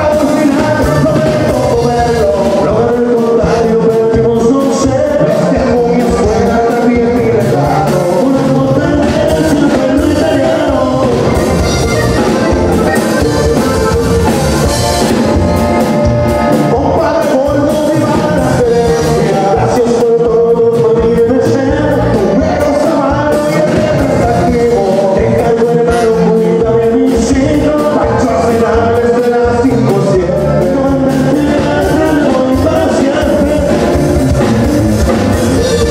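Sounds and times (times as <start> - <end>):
accordion melody: 0.0 - 35.9
drum kit: 0.0 - 35.9
guitar: 0.0 - 35.9
sousaphone bass: 0.0 - 35.9.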